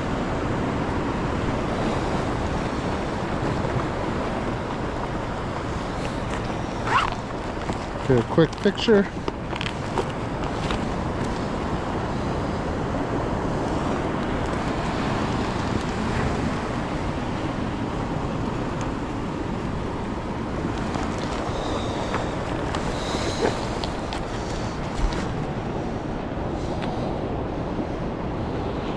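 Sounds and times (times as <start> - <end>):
surf washing on beach: 0.0 - 28.9
wind buffeting microphone: 0.0 - 28.9.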